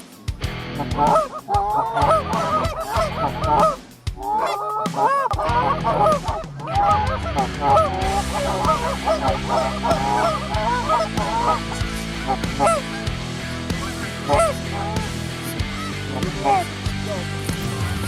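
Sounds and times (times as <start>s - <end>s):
geese honking: 0.6s - 18.0s.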